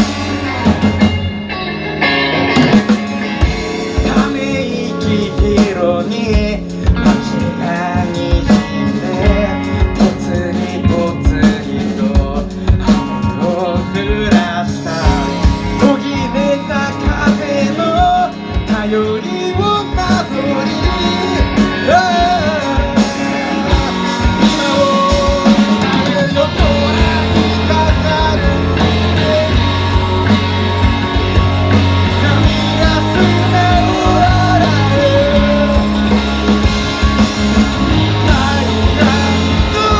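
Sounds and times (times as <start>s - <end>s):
rock band playing instrumental: 0.0s - 39.9s.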